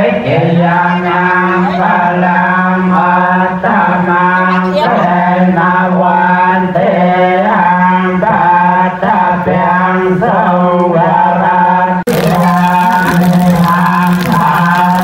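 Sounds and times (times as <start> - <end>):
voice chanting: 0.0 - 15.0.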